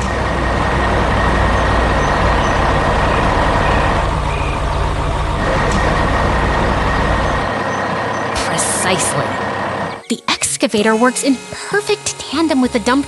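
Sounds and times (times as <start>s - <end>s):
excavator diesel engine hum: 0.0s - 13.0s.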